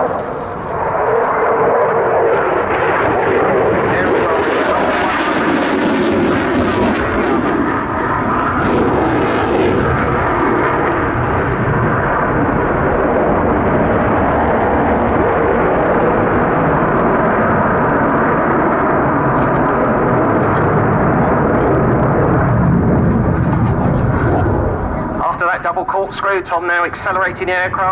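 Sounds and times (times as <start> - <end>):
jet engines roaring in flight: 0.0 - 27.9.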